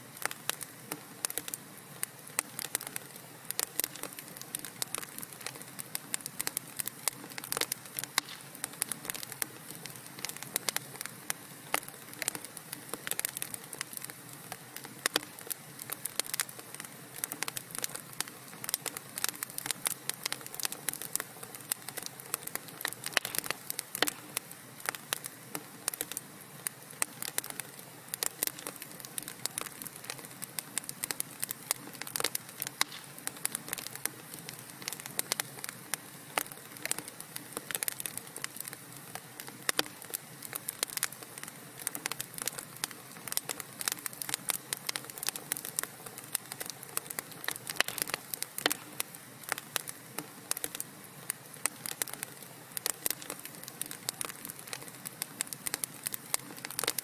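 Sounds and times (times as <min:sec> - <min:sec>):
logs crackling and popping: 0:00.0 - 0:57.0
wood fire burning: 0:00.0 - 0:57.0.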